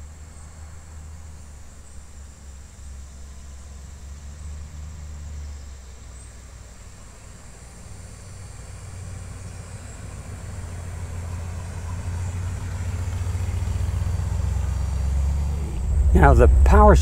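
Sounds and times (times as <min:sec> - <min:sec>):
car engine low rumble passing: 0:00.0 - 0:17.0.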